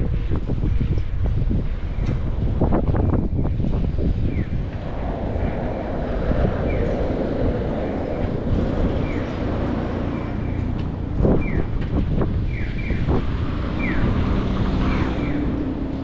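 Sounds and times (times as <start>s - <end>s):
street noise: 0.0s - 16.0s
wind rumbling on microphone: 0.0s - 16.0s.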